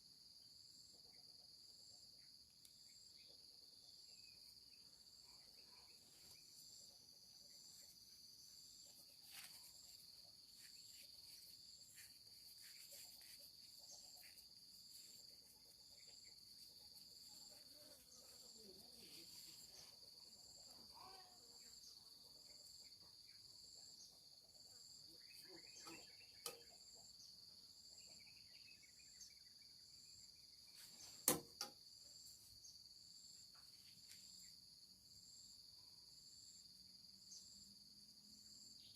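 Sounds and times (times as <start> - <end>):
higher pulsing insect call: 0.0 - 38.9
insects trilling: 1.8 - 38.9.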